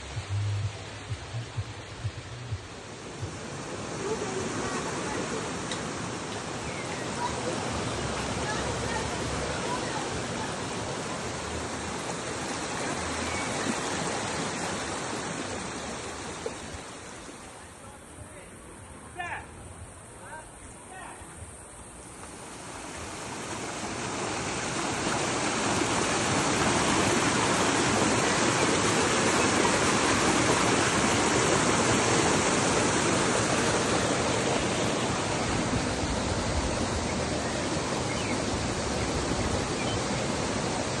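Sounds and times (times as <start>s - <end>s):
stream rushing over rocks: 0.0s - 17.8s, 21.8s - 41.0s.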